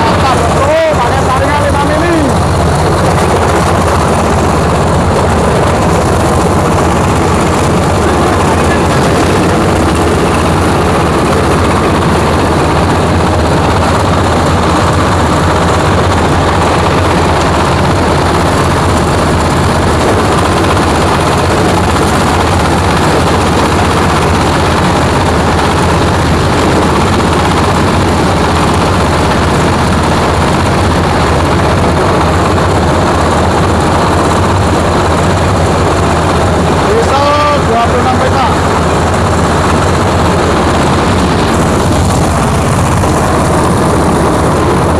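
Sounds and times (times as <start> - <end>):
grinding machine running: 0.0 - 44.9.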